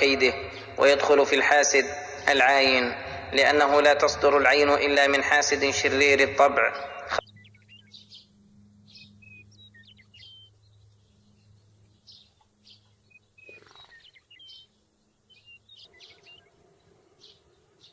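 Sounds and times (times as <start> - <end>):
small birds chirping: 0.0 - 3.5, 4.4 - 17.9.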